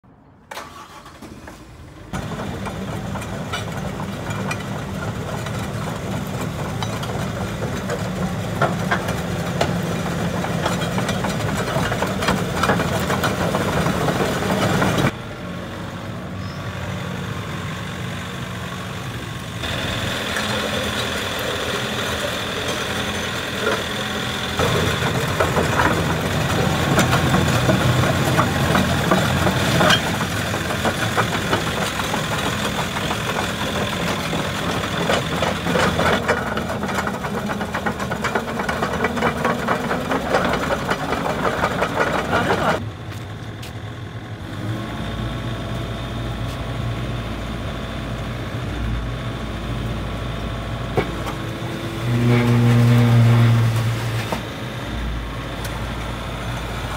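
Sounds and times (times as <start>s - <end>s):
excavator diesel engine idling: 1.6s - 56.9s.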